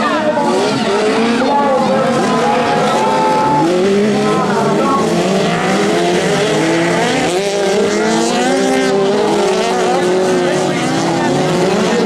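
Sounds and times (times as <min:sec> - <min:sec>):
racing engines revving: 0:00.0 - 0:12.0.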